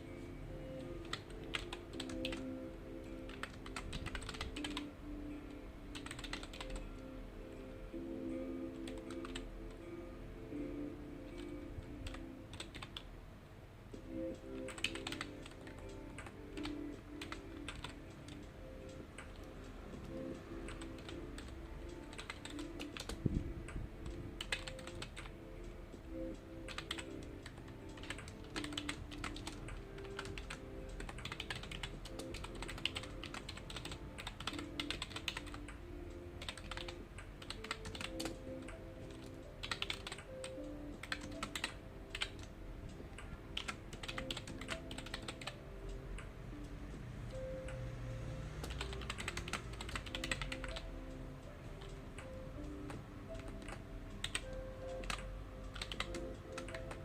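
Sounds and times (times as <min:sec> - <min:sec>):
computer keyboard typing: 0:00.0 - 0:07.1, 0:08.6 - 0:09.9, 0:10.5 - 0:13.1, 0:14.1 - 0:57.0
soft background music: 0:00.0 - 0:57.0.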